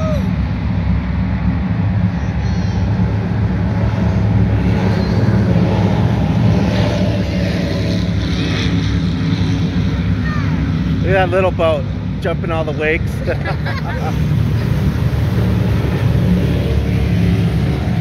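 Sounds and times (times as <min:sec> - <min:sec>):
powerboat engines rumbling: 0:00.0 - 0:18.0.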